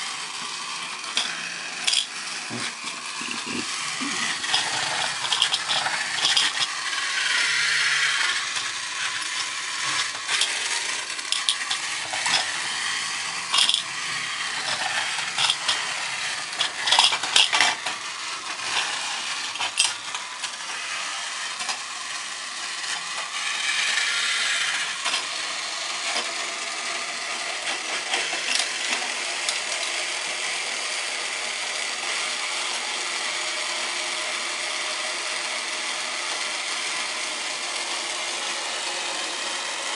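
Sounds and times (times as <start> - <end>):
toy train engines whirring: 0.0 - 39.9.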